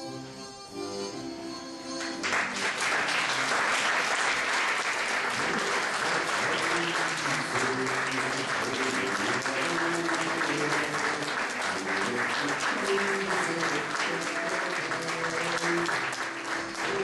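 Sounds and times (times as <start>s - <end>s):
audience applauding: 2.0s - 17.0s.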